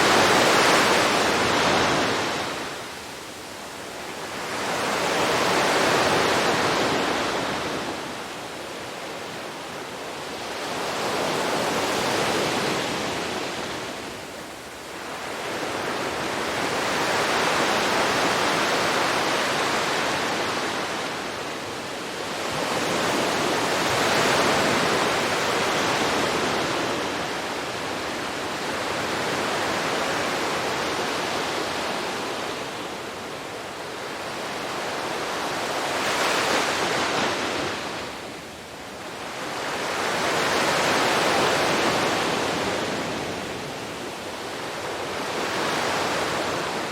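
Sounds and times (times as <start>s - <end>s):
ocean waves washing onto shore: 0.0s - 46.9s.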